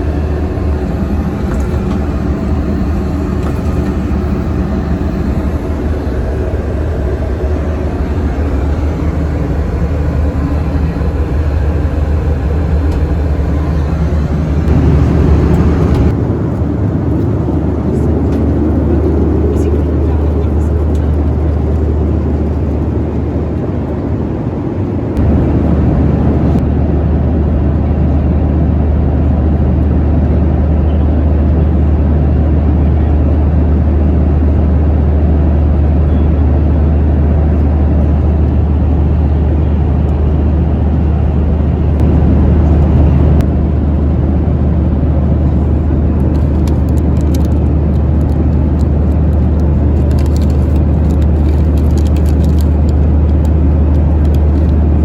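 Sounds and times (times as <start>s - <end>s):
airplane cabin engine and airflow rush: 0.0s - 55.0s.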